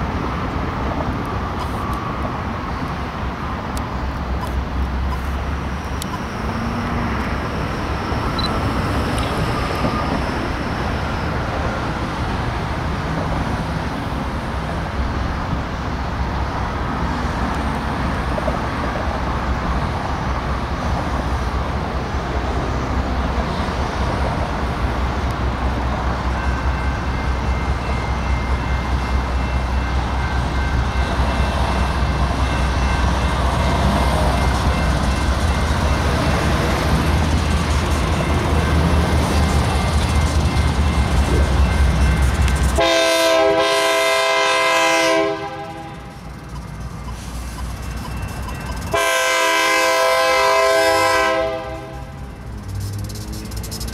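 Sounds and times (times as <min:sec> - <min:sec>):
diesel locomotive engine rumble: 0:00.0 - 0:53.9.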